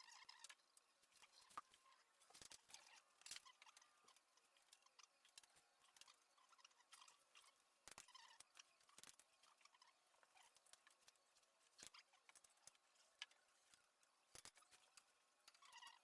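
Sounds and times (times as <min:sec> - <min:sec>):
faint small clicks: 0:00.0 - 0:16.0.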